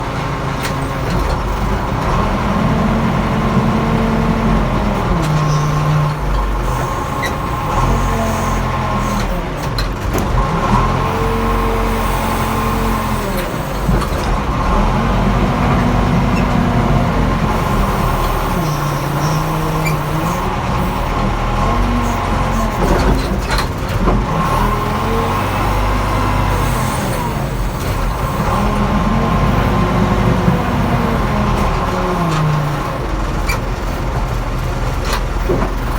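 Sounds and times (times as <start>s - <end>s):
diesel engine under load: 0.0s - 35.9s.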